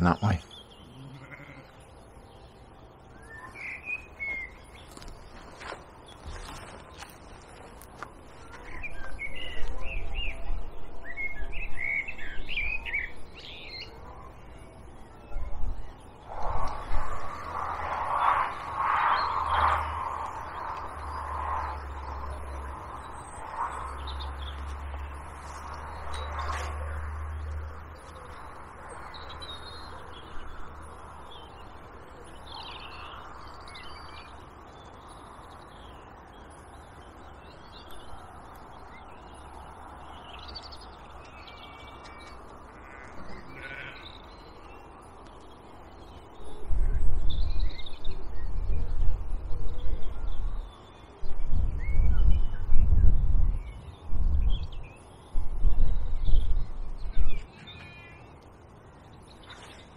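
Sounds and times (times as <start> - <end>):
birds calling and chirping: 0.0 - 59.9
wind rumbling on microphone: 2.8 - 59.9.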